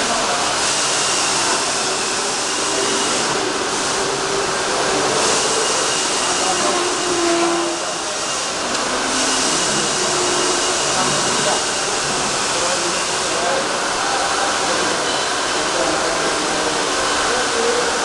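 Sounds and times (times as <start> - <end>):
machinery hissing: 0.0 - 18.0.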